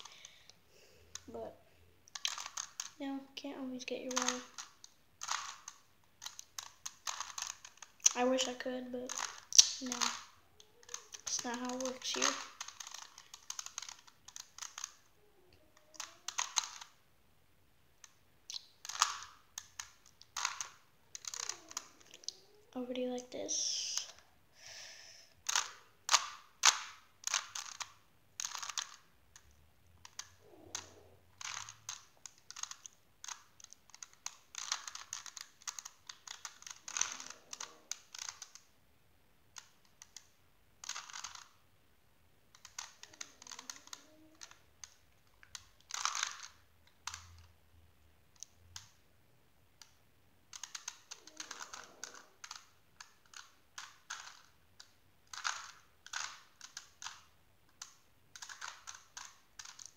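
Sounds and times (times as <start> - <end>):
plastic puzzle cube clicking: 0.0 - 1.5, 2.1 - 3.0, 3.6 - 15.1, 15.8 - 17.0, 18.0 - 38.7, 39.5 - 41.6, 42.5 - 47.6, 48.3 - 49.0, 49.8 - 59.9.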